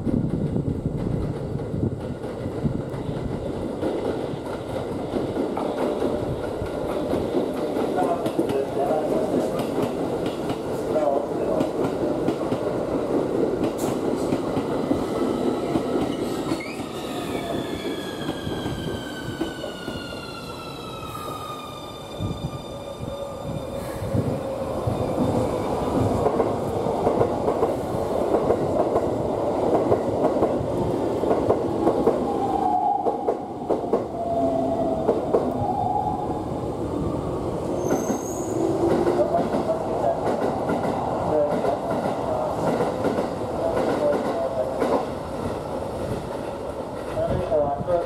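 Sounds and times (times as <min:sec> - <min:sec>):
train wheel and rail noise: 0:00.0 - 0:48.0.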